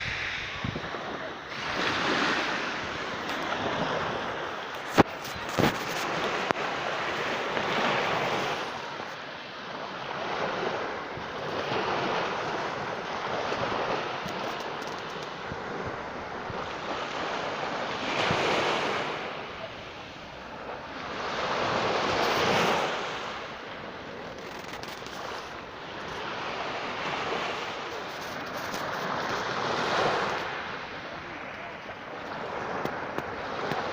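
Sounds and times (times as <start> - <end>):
sea waves washing in: 0.0 - 33.9.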